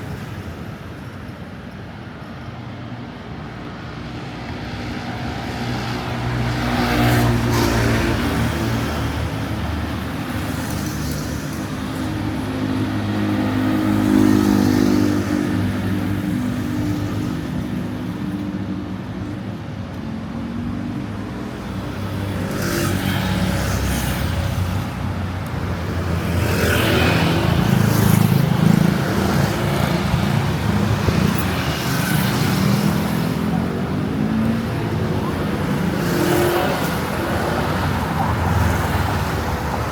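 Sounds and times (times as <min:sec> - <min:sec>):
vehicles passing close by: 0:00.0 - 0:39.9.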